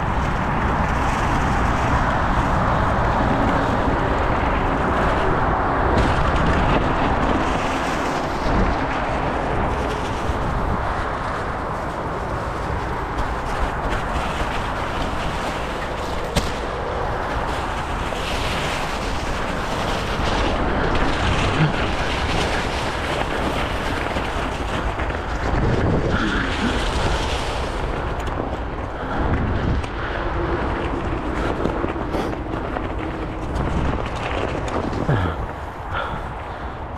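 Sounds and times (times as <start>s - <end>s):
bike knocking and rattling: 0.0s - 36.9s
bike tyres rolling over leaves: 0.0s - 36.9s
wind rumble on microphone: 0.0s - 36.9s.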